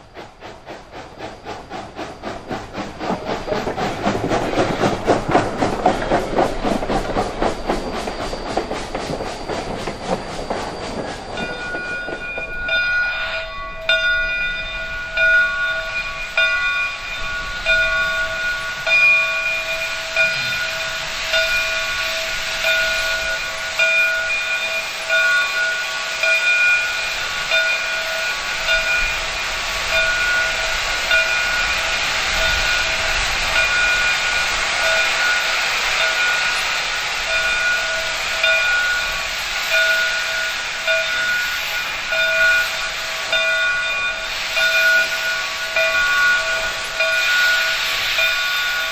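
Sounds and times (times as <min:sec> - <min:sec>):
steam hissing: 0:00.0 - 0:48.9.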